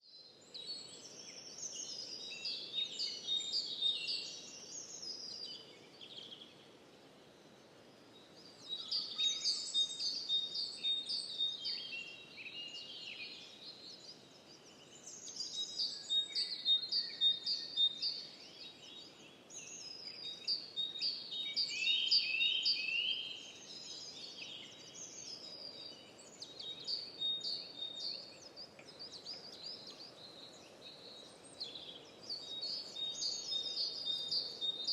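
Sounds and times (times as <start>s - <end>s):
birds singing and chirping: 0.0s - 6.6s, 8.1s - 34.9s
faint steady background hiss: 0.1s - 34.9s.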